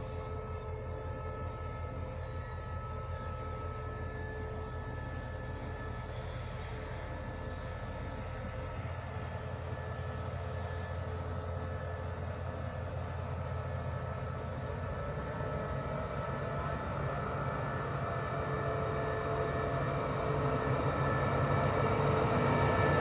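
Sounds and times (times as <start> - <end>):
locomotive engine hum with whine: 0.0 - 23.0.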